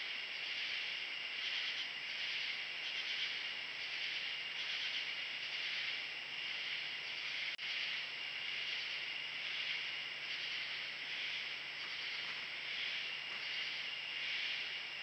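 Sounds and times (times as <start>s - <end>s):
insects chirping shrilly: 0.0s - 15.0s.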